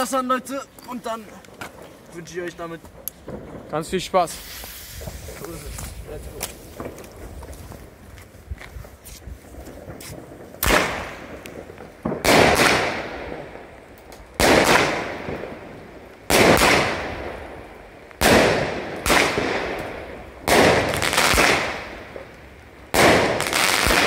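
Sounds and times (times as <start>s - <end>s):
fireworks bangs: 0.0s - 8.2s, 8.8s - 24.0s.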